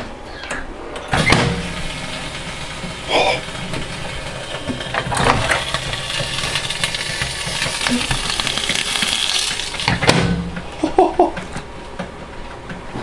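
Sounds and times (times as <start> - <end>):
microwave oven hum: 0.0 - 13.0
metal arcing in microwave: 0.9 - 12.1.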